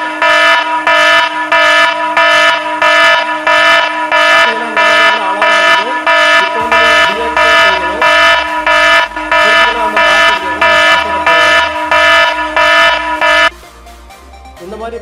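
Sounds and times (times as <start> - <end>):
electronic alarm beeping: 0.0 - 13.6.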